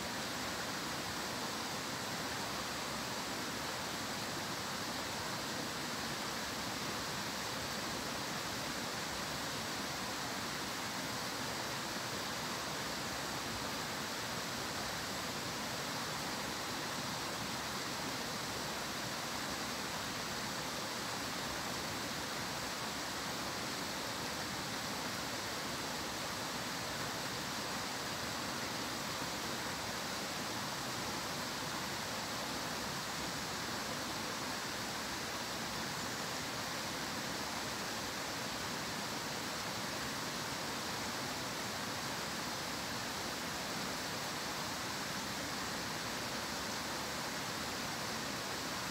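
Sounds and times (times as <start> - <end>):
stream rushing: 0.0 - 48.9.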